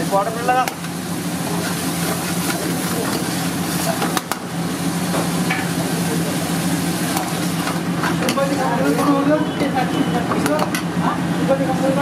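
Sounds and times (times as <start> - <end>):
gravy sizzling and bubbling in a pan: 0.0 - 12.0.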